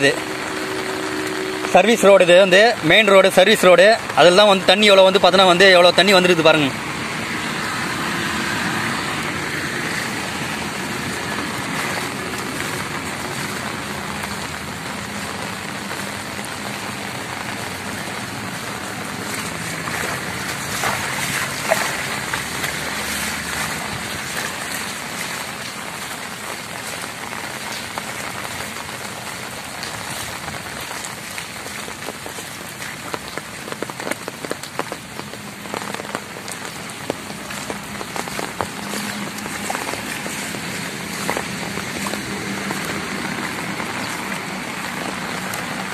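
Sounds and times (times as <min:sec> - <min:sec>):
rain: 0:00.0 - 0:45.9
water running across road: 0:00.0 - 0:45.9.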